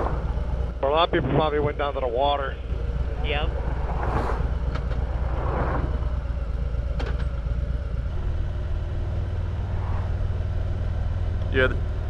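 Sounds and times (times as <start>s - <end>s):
motorcycle engine drone: 0.0s - 12.0s
road and wind noise: 0.0s - 12.0s.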